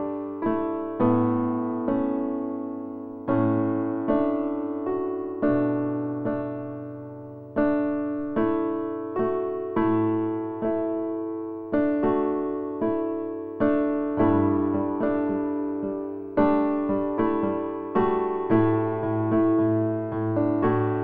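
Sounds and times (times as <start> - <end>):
slow gentle piano: 0.0 - 21.0.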